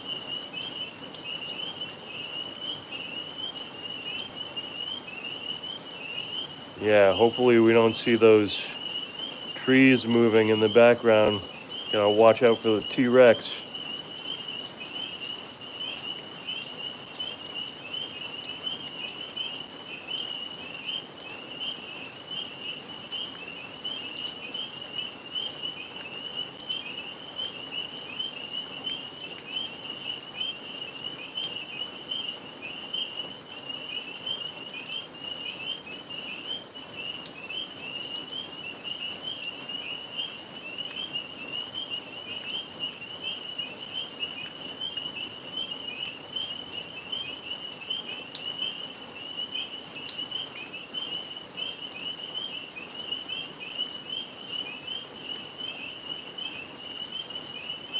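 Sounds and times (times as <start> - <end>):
rain falling: 0.0 - 57.9
tree frogs trilling: 0.0 - 57.9.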